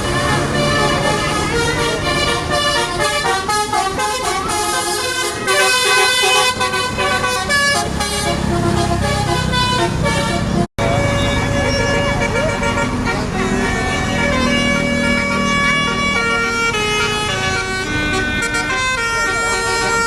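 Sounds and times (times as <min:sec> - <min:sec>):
bus musical horn tune: 0:00.0 - 0:20.0
low engine rumble: 0:00.0 - 0:20.0.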